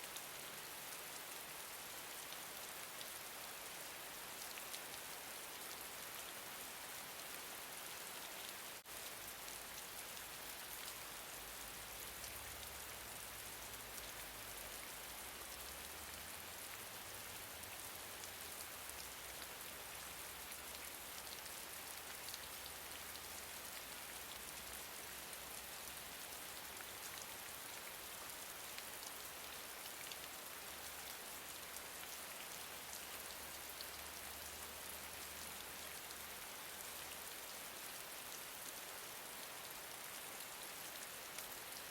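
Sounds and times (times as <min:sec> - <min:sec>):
gentle rain: 0:00.0 - 0:41.9.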